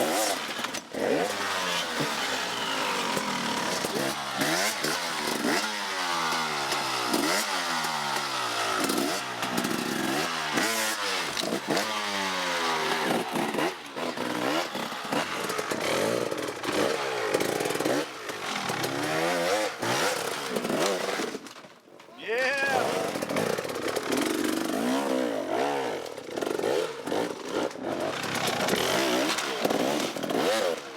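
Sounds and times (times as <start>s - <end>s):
motorcycle engine revving: 0.0s - 21.4s, 22.8s - 30.9s.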